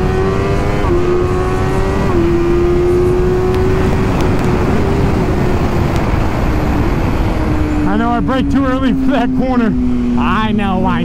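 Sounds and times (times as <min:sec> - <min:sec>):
motorcycle engine accelerating: 0:00.0 - 0:11.0
wind rush on microphone: 0:00.0 - 0:11.0.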